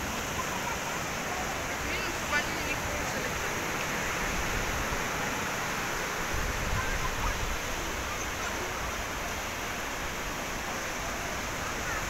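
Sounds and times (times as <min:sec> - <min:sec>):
waves breaking on sand: 0:00.0 - 0:12.0.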